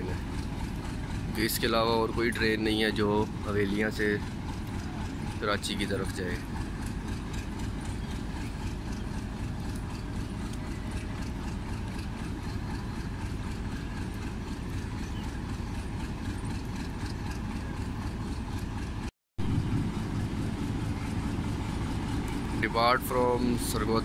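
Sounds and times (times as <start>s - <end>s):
diesel locomotive engine rumbling: 0.0s - 24.0s.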